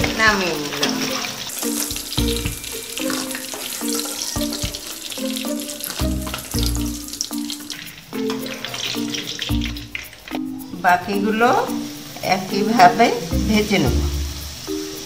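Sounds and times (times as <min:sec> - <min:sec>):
background music with beat: 0:00.0 - 0:15.0
food deep-frying in oil: 0:00.0 - 0:15.0.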